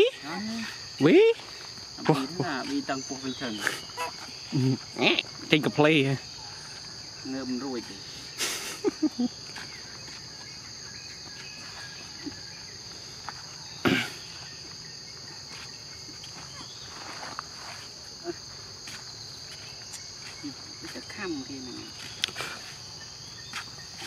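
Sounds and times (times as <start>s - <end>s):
insects buzzing: 0.0s - 24.0s.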